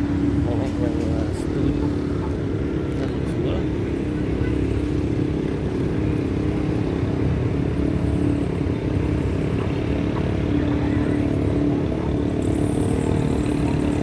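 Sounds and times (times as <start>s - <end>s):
motorcycle engines passing: 0.0s - 14.0s
road traffic rumble: 0.0s - 14.0s.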